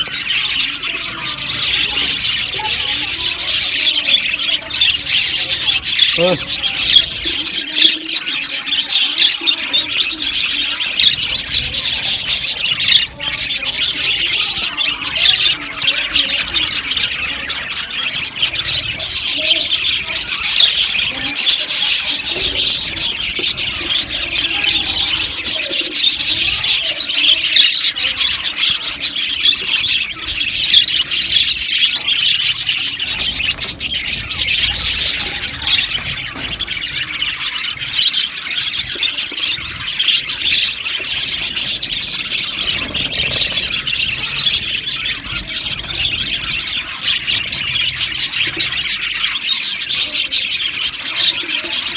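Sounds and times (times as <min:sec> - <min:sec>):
budgerigars chirping and chattering: 0:00.0 - 0:51.9.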